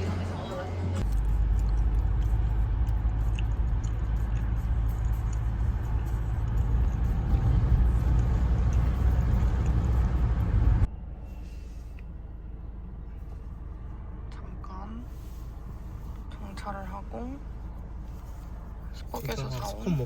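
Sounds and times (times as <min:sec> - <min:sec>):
road and engine noise inside car: 0:00.0 - 0:20.0.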